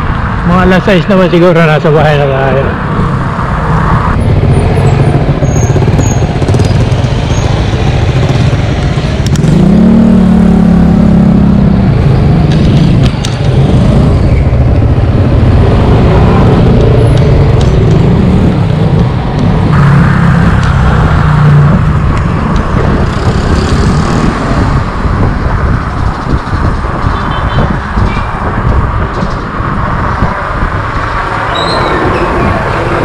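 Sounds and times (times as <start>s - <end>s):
wind and road noise: 0.0s - 33.0s
motorcycle engine: 3.1s - 33.0s.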